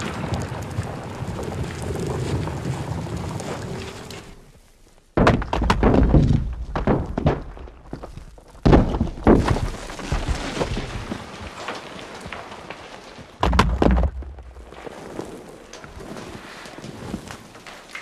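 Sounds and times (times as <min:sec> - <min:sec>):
earth and rock crashing down: 0:00.0 - 0:18.0
small debris trickling: 0:00.0 - 0:18.0.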